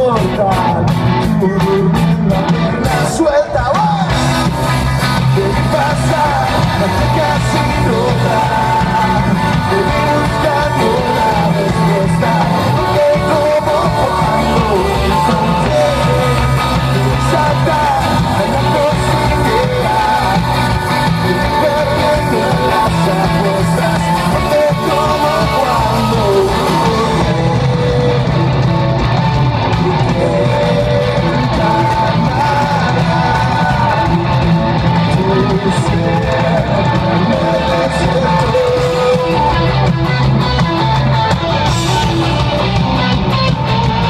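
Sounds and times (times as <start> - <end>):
live rock band playing: 0.0 - 44.0.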